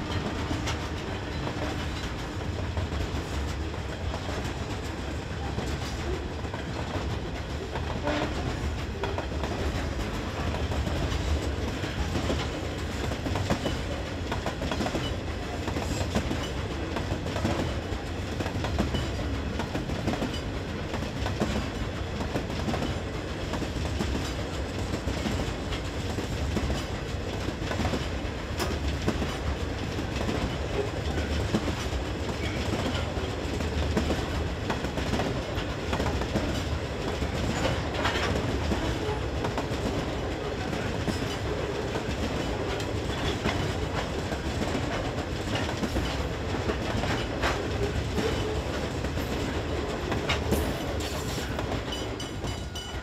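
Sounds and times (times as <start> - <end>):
wagons rumbling on rails: 0.0 - 53.0
wheels clacking over track: 0.1 - 53.0.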